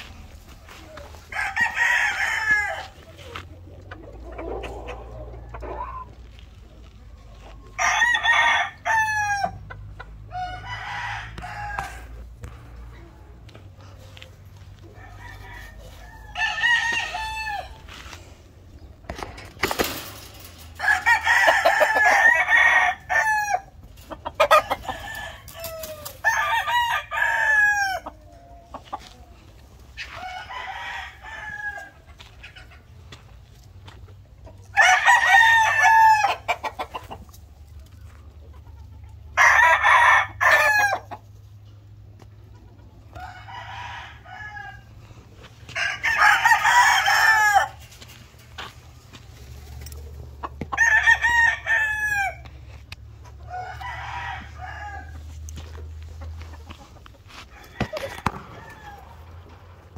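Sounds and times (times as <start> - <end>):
roosters crowing: 0.0 - 3.4, 7.2 - 12.8, 13.5 - 33.2, 34.6 - 37.4, 39.1 - 41.8, 42.9 - 59.9.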